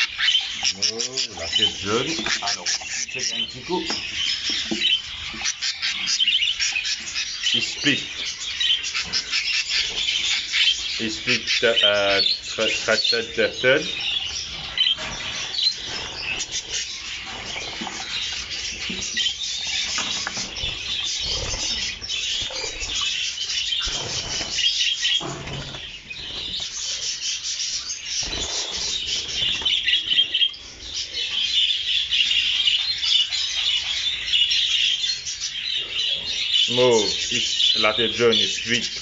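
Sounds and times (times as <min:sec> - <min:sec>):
budgerigars chattering: 0:00.0 - 0:39.0.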